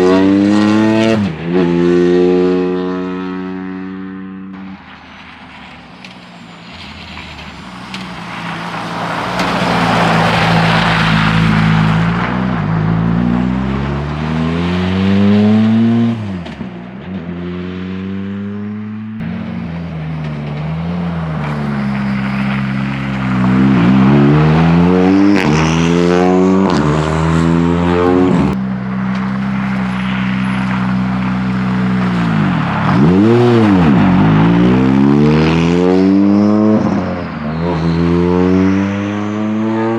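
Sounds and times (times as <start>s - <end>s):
rally car engines revving: 0.0s - 39.9s
rushing noise of passing car: 0.0s - 39.9s.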